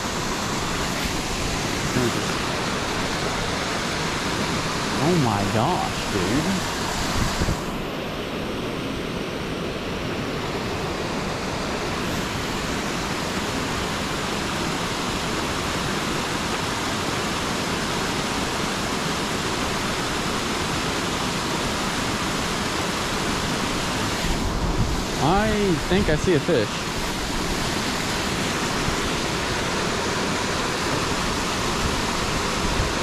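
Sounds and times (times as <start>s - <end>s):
water rushing over rock ledges: 0.0s - 7.9s, 9.3s - 33.0s.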